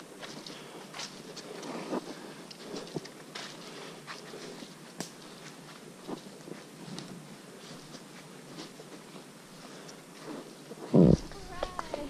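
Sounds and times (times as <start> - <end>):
footsteps on dirt trail: 0.0 - 12.0.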